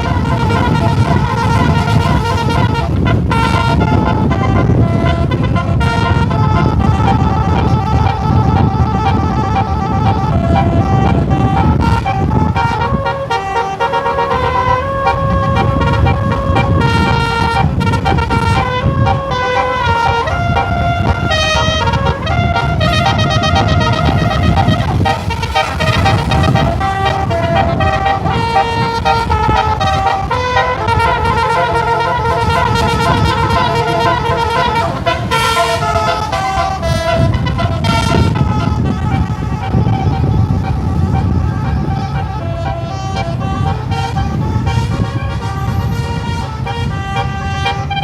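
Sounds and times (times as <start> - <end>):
bus engine rumble: 0.0 - 48.0
musical bus horn playing a tune: 0.0 - 48.0
road noise: 0.0 - 48.0.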